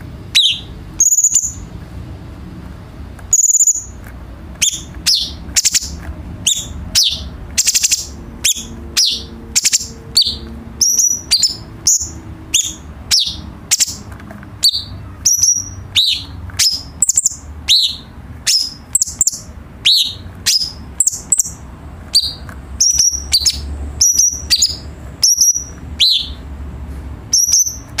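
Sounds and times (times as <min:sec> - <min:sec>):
bird singing sharp high notes: 0:00.3 - 0:01.7, 0:03.3 - 0:04.0, 0:04.6 - 0:26.5, 0:27.3 - 0:28.0.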